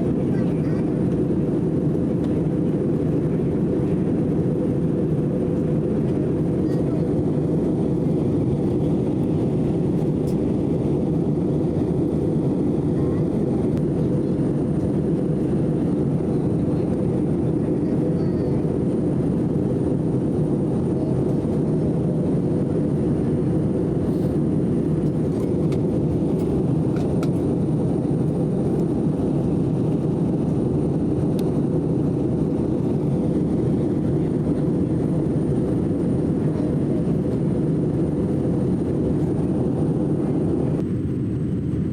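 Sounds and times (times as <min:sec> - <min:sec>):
airliner cabin engine roar: 0:00.0 - 0:41.9.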